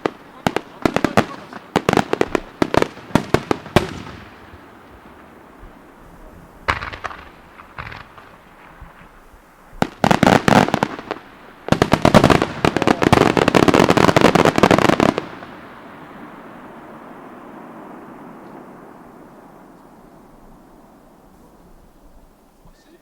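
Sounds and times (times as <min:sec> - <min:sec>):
fireworks bangs: 0:00.0 - 0:22.8.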